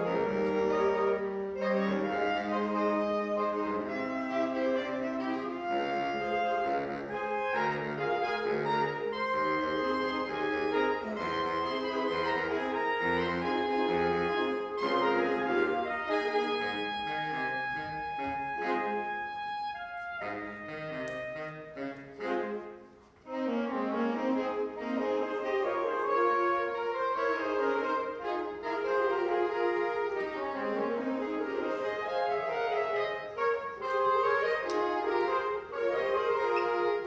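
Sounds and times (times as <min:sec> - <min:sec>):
saxophone ensemble playing: 0:00.0 - 0:37.0.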